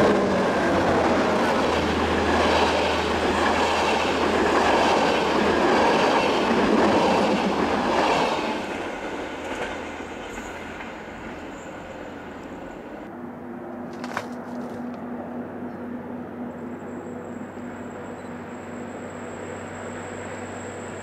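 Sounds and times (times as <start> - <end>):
train coaches rolling past: 0.0 - 21.0.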